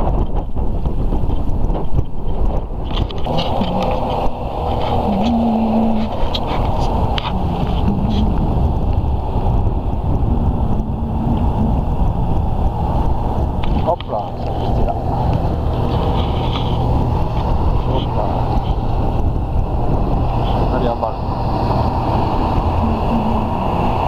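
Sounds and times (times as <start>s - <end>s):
wind buffeting microphone: 0.0s - 24.0s
faint wavering hum: 3.1s - 24.0s.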